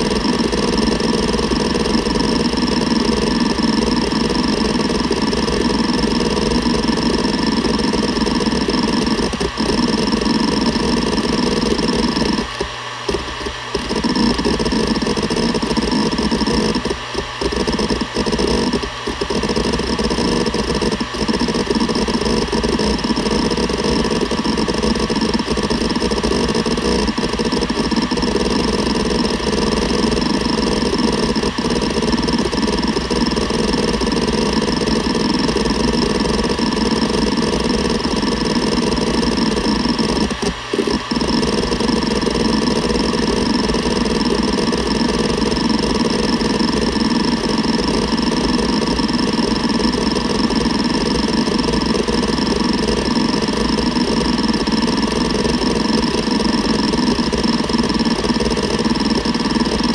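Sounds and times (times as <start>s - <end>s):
hard drive seek chatter: 0.0s - 59.9s
hard drive spindle humming: 0.0s - 59.9s.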